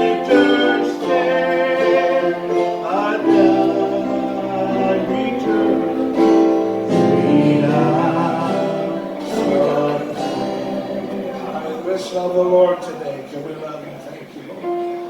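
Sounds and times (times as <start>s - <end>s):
gospel singing: 0.0s - 13.5s
guitar accompaniment: 0.0s - 13.6s, 14.5s - 15.0s.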